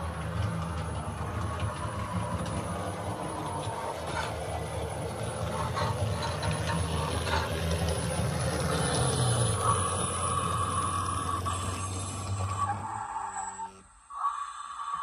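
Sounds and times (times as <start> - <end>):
locomotive low hum: 0.0 - 15.0.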